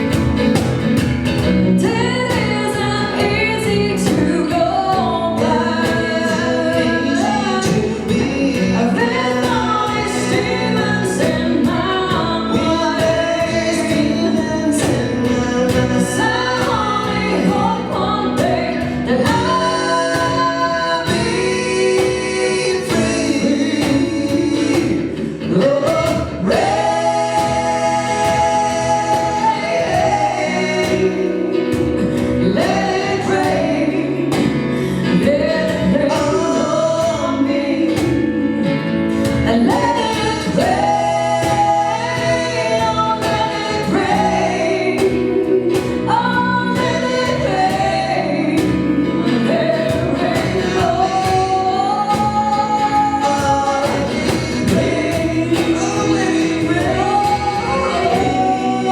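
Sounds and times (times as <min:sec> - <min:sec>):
backing vocalists singing: 0:00.0 - 0:58.9
drums: 0:00.0 - 0:58.9
keyboards: 0:00.0 - 0:58.9
lead singer: 0:00.0 - 0:58.9.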